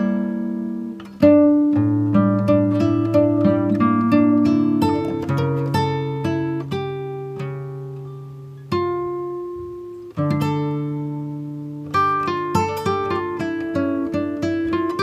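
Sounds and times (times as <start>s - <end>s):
plucked acoustic guitar melody: 0.0s - 15.0s.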